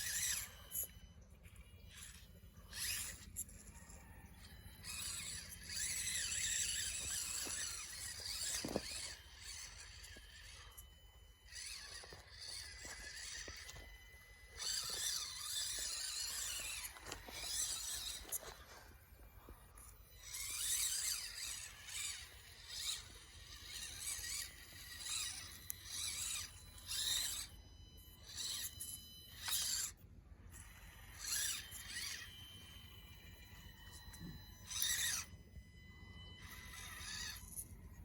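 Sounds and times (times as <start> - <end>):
rc truck motor whining: 0.0 - 38.0.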